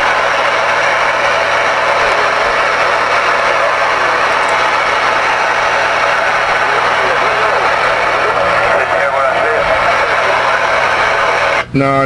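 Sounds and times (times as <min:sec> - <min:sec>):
radio static hiss: 0:00.0 - 0:11.6.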